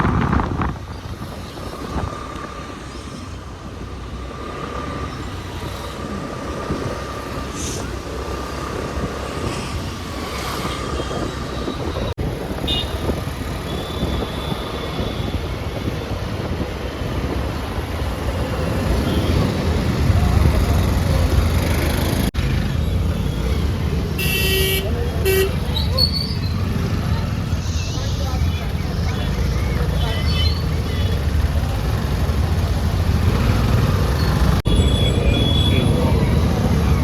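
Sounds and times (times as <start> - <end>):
road noise: 0.0 - 37.0.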